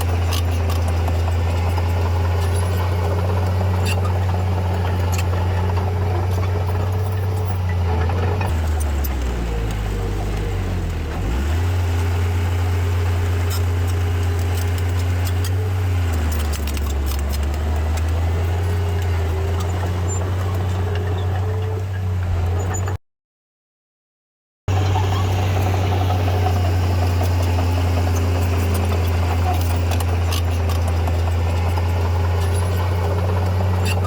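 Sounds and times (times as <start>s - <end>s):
diesel engine of heavy machinery: 0.0s - 23.0s, 24.7s - 34.0s.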